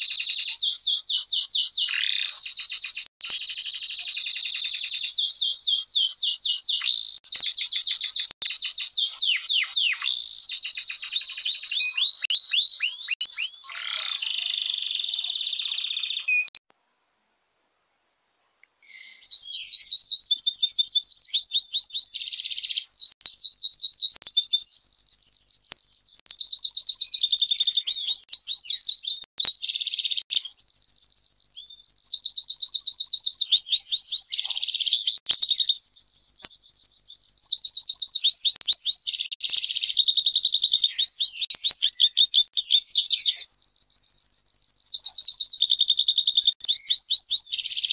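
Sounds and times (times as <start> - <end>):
finch singing warbling trills: 0.0 - 16.6, 18.9 - 47.9.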